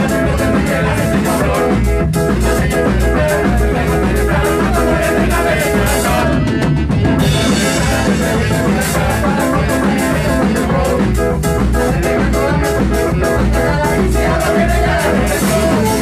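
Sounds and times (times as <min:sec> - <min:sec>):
ska band playing live: 0:00.0 - 0:16.0
steady drum beat: 0:00.0 - 0:16.0.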